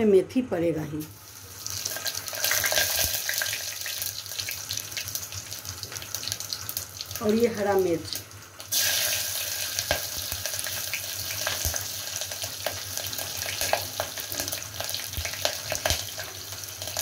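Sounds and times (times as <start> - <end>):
chillies sizzling in hot oil: 1.0 - 17.0.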